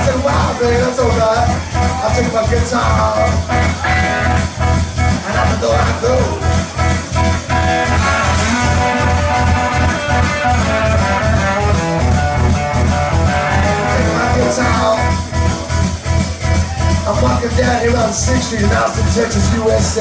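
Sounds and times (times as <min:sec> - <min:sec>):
blues-rock band playing: 0:00.0 - 0:20.0
pulsing bass line: 0:00.0 - 0:20.0.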